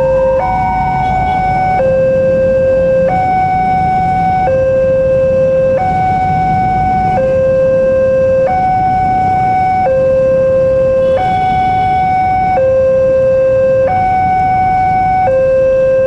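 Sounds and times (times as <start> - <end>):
two-tone level-crossing alarm: 0.0 - 16.0.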